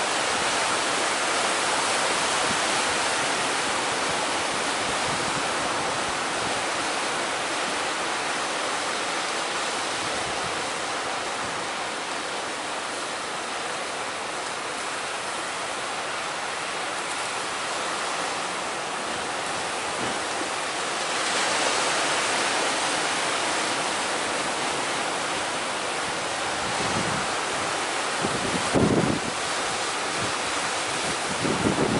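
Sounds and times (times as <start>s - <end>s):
heavy sea surf breaking: 0.0s - 31.9s
strong wind: 0.0s - 31.9s.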